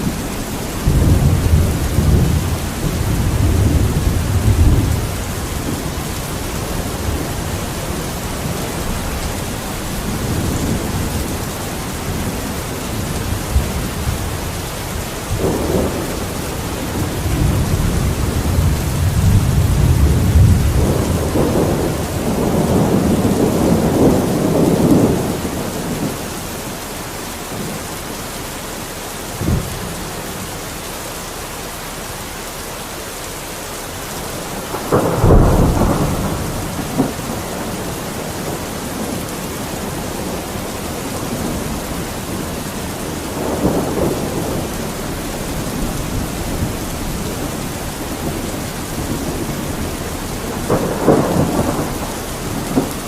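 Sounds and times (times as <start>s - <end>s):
rolling thunder: 0.0s - 26.8s, 29.2s - 30.5s, 34.1s - 53.0s
steady rain: 0.0s - 53.0s.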